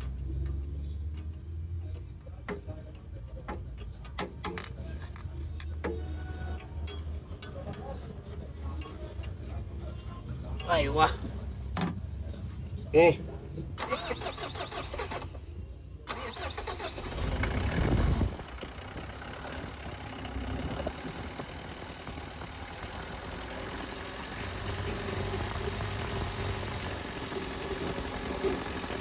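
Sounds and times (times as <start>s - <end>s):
diesel engine cranking and idling: 0.0s - 29.0s.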